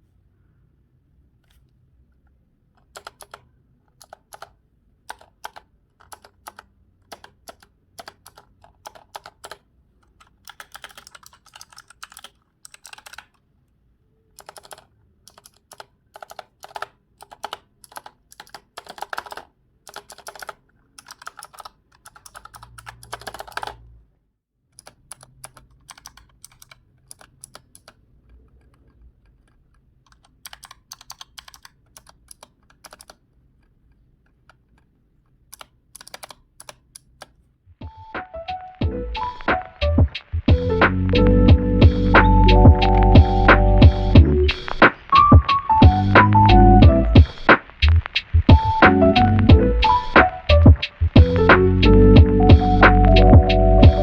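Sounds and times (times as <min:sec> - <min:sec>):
mechanical keyboard typing: 0:02.8 - 0:13.4, 0:14.3 - 0:23.9, 0:24.8 - 0:33.8, 0:34.4 - 0:37.4, 0:38.5 - 0:54.0.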